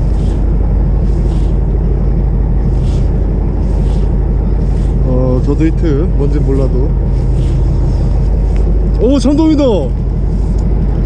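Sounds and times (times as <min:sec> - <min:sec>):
faint hissing swish: 0:00.0 - 0:09.3
boat engine humming: 0:00.0 - 0:11.0.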